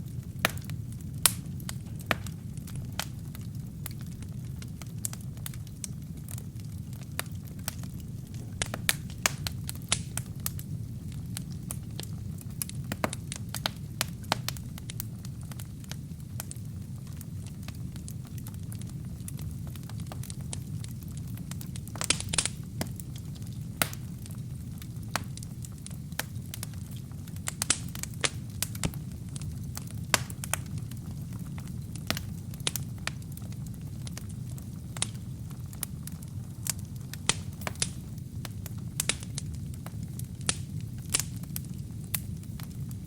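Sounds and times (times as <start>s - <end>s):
fire flame rumbling: 0.0s - 43.0s
logs crackling and popping: 0.0s - 43.0s.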